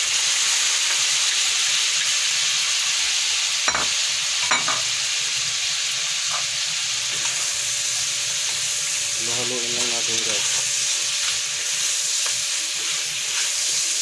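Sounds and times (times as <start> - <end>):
seafood sizzling in butter: 0.0 - 14.0.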